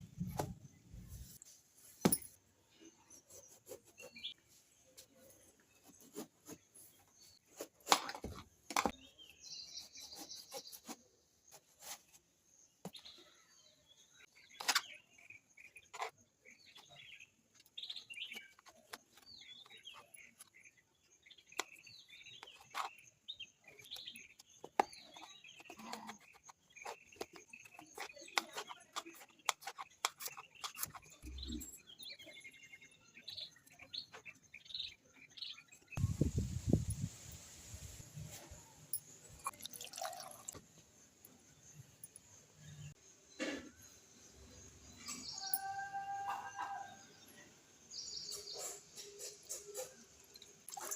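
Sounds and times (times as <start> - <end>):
birds chirping: 0.0 - 37.1, 37.8 - 50.9.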